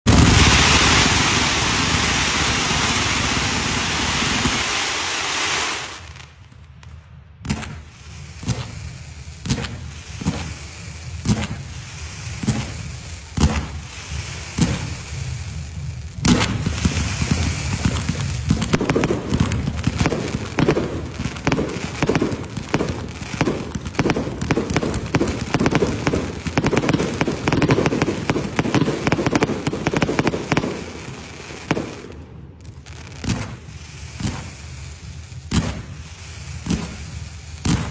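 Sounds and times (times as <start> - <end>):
firecracker bangs: 0.0 - 37.9
firecracker fuse hiss: 0.1 - 6.4, 7.5 - 37.9
firecrackers crackling pops: 0.1 - 37.9.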